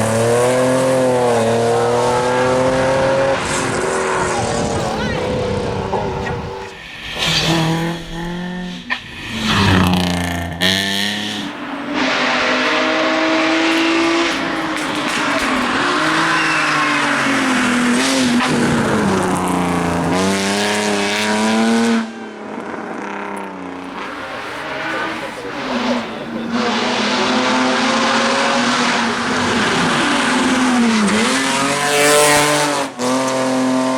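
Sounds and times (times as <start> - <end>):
loud tyre noise: 0.0 - 33.9
rally car engines revving: 0.0 - 33.9.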